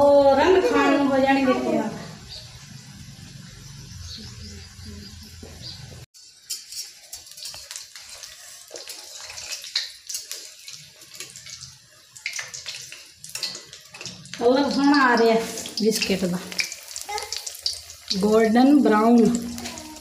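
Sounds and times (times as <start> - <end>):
dough frying in hot oil: 0.0 - 20.0.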